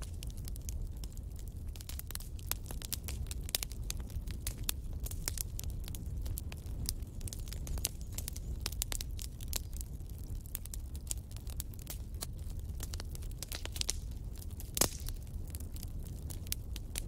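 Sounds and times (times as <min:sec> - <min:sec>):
low steady fire rumble: 0:00.0 - 0:17.0
wood fire crackling and popping: 0:00.0 - 0:17.0.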